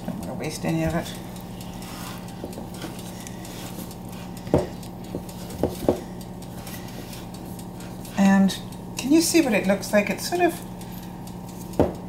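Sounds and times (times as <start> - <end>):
wooden spoon stirring wet dough: 0.0 - 10.5
steady low hum: 0.0 - 12.0.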